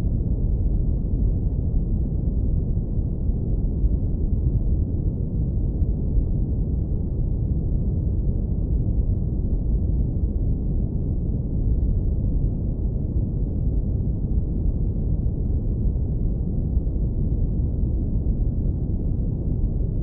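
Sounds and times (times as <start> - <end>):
deep low rumble noise: 0.0 - 20.0.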